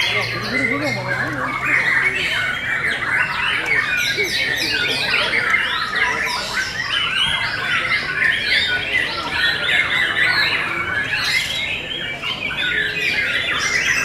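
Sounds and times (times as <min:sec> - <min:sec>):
birds singing in chorus: 0:00.0 - 0:14.0.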